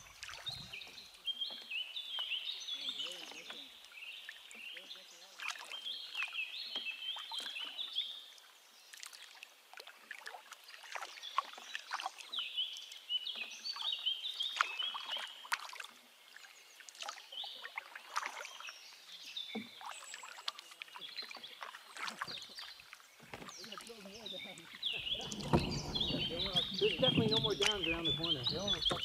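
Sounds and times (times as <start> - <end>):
paddle splashing water: 0.0 - 29.0.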